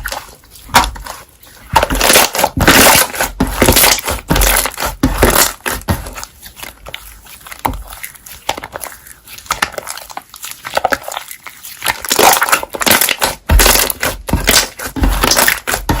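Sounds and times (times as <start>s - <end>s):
slime squishing and popping: 0.0s - 16.0s.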